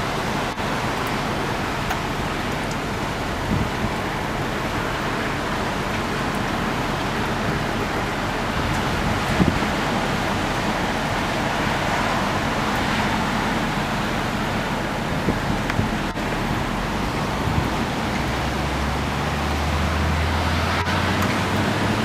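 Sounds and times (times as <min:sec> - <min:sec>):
storm wind: 0:00.0 - 0:22.0
surf roaring: 0:00.0 - 0:22.0.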